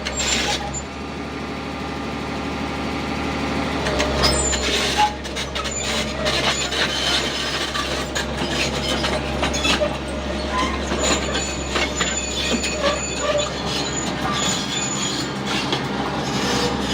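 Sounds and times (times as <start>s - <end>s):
metallic clanks and squeals: 0.0s - 0.9s, 3.8s - 16.9s.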